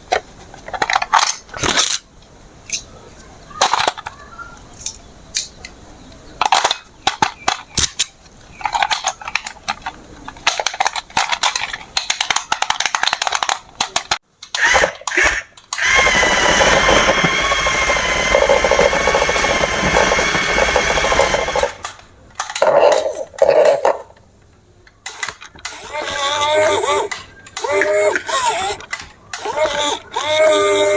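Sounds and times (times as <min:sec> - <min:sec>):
plastic toy parts clicking and knocking: 0:00.0 - 0:02.0, 0:03.6 - 0:05.8, 0:06.4 - 0:24.2, 0:24.8 - 0:30.9.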